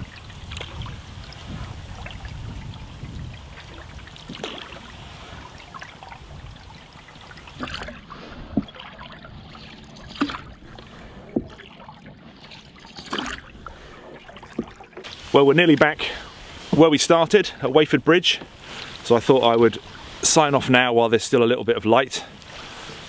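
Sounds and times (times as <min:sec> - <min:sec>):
paddle strokes in water: 0:00.0 - 0:20.9, 0:22.2 - 0:23.0
water trickling along hull: 0:00.0 - 0:23.0.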